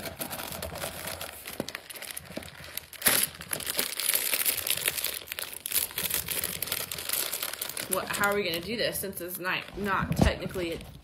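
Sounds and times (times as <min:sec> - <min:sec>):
candy wrapper crinkling: 0:00.0 - 0:11.0.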